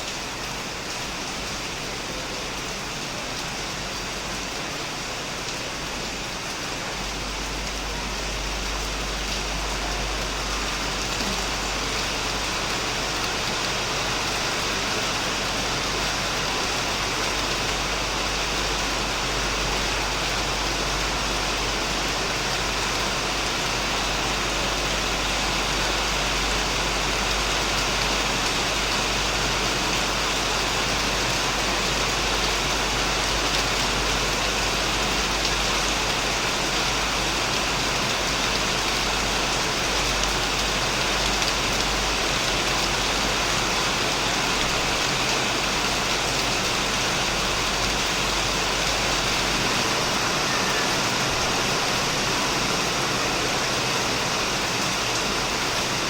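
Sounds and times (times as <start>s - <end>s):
heavy rain on a shed: 0.0s - 56.0s.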